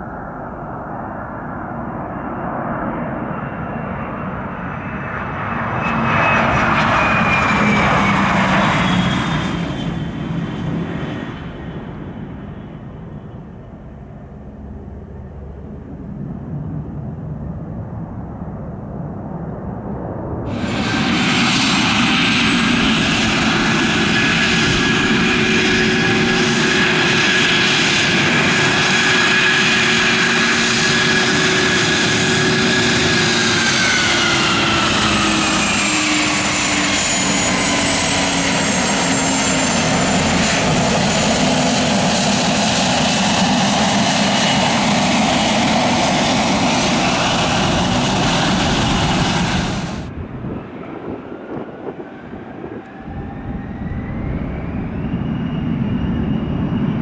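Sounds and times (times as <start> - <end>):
jet engines whining: 0.0 - 17.2, 19.5 - 57.0.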